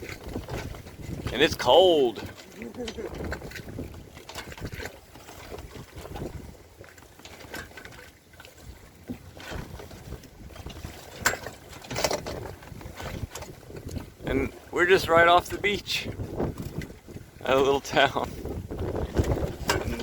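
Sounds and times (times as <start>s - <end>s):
wind buffeting microphone: 0.0s - 6.9s, 8.6s - 20.0s
waves splashing against hull: 0.0s - 20.0s.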